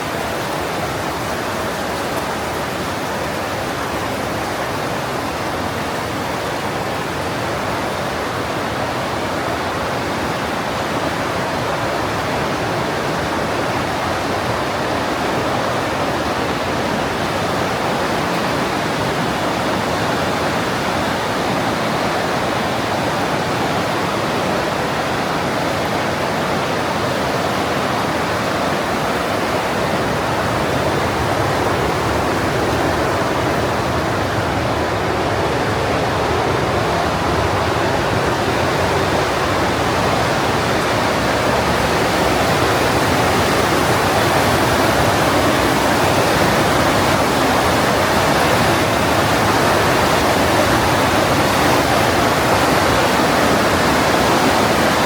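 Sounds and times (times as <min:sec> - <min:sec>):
river rushing through gorge: 0:00.0 - 0:55.0.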